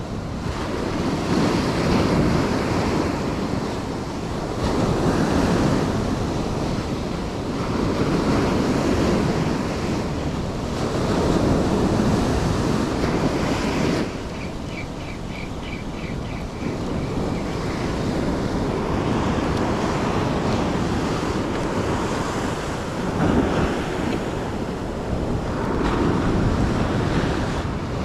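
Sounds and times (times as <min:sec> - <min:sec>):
ocean surf washing onto beach: 0:00.0 - 0:28.0
wind buffeting microphone: 0:00.0 - 0:28.0.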